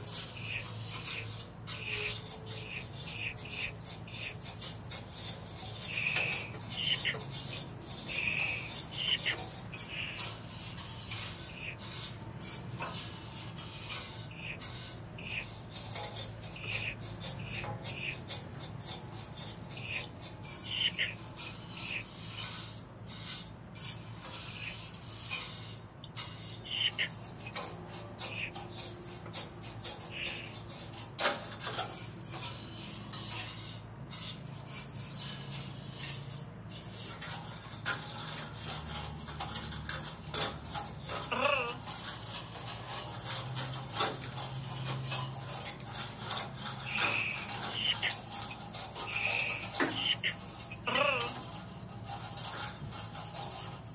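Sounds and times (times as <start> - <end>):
sticks scraping metal tubes: 0.0 - 53.9.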